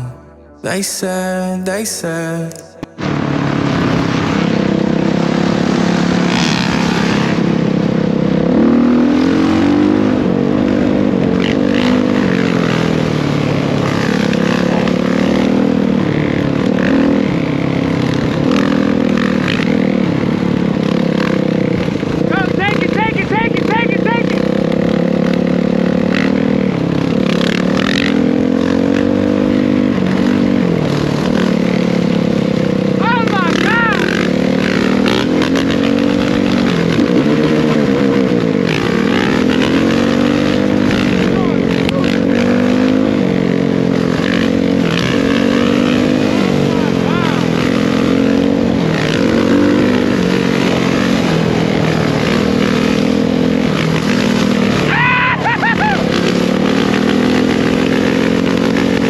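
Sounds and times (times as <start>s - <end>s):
dirt bike engine running: 2.8s - 59.0s.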